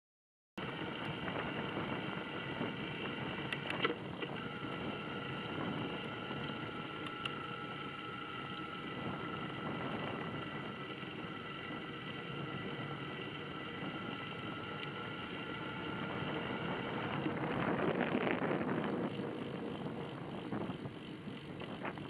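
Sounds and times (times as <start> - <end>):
bicycle tyre and wind noise: 0.6 - 22.0
faint steady tones: 0.6 - 22.0.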